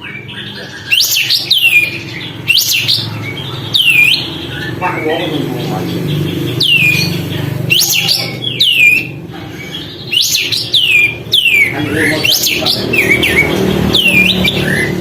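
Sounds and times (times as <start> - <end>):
bird singing sharp notes: 0.0 - 15.0.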